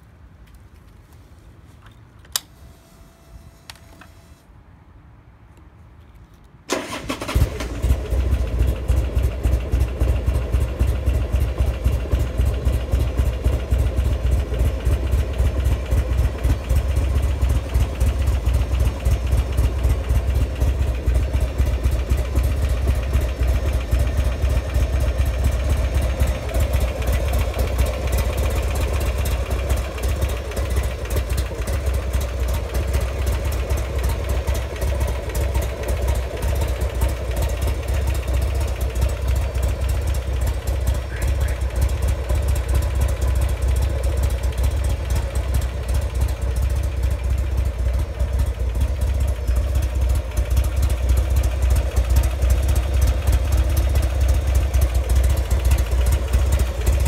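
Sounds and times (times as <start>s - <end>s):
motorcycle engine starting and idling: 6.7s - 57.0s.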